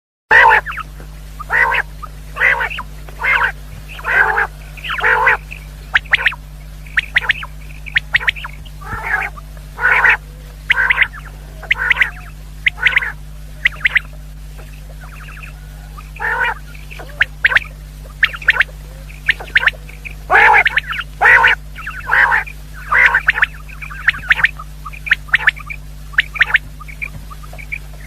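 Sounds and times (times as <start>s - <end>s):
quail rasping calls: 0.3s - 28.0s
steady low hum: 0.3s - 28.0s.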